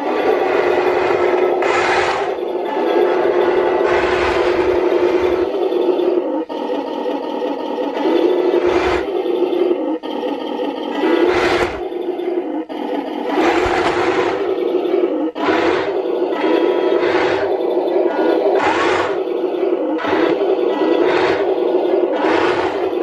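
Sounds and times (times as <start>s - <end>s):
simulated tank engine revving: 0.0s - 23.0s
toy tracks whirring on floor: 0.0s - 23.0s.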